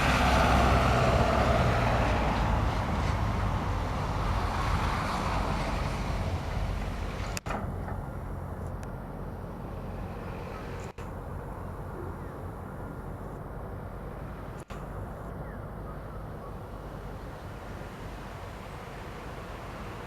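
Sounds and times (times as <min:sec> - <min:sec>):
train wagons rumbling on track: 0:00.0 - 0:20.0.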